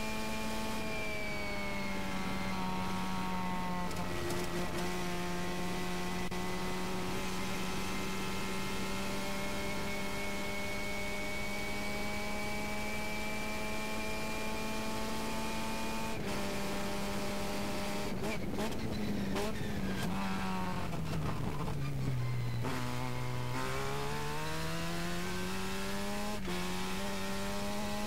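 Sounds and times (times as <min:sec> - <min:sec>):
race car engine accelerating: 0:00.0 - 0:21.8, 0:22.6 - 0:28.0.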